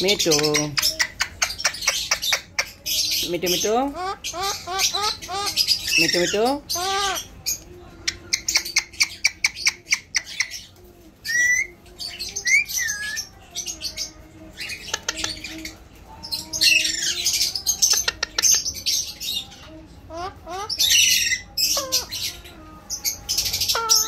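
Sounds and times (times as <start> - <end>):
parakeet calling: 0.0 - 24.0.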